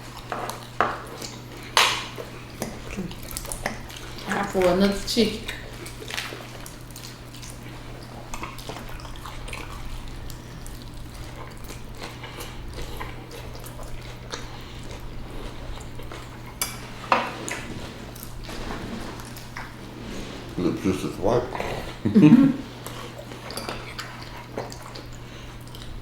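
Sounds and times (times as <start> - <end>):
steady low hum: 1.5 - 24.3.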